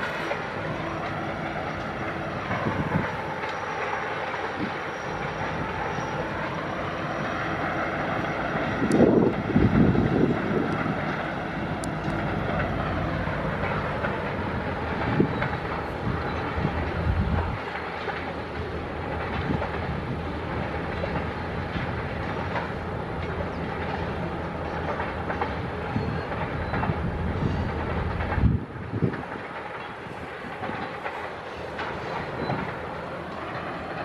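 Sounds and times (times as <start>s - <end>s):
train rumble: 0.0s - 34.0s
train wheels clicking on rails: 0.0s - 34.0s.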